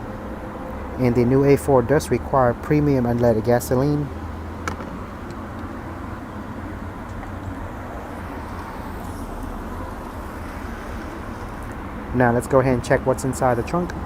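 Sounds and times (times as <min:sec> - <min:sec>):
low outdoor background rumble: 0:00.0 - 0:14.0.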